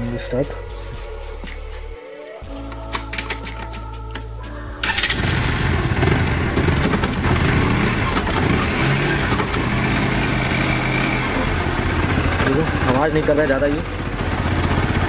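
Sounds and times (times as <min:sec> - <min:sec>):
motorcycle engine starting and idling: 0:02.9 - 0:15.0.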